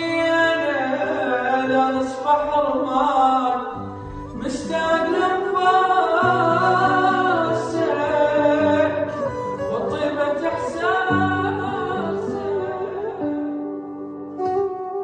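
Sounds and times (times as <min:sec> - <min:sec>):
instrumental backing: 0:00.0 - 0:15.0
person singing wavering melody: 0:00.0 - 0:15.0.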